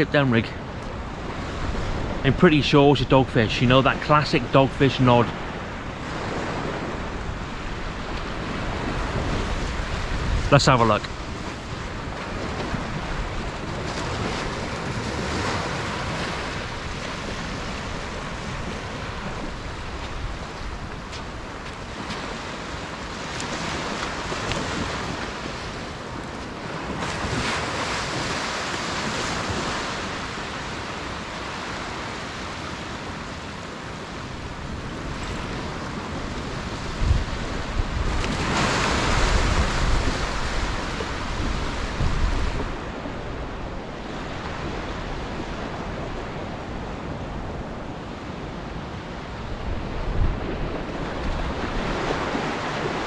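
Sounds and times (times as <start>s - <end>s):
small waves breaking on sand: 0.0s - 53.0s
wind buffeting microphone: 5.3s - 33.2s, 33.9s - 53.0s.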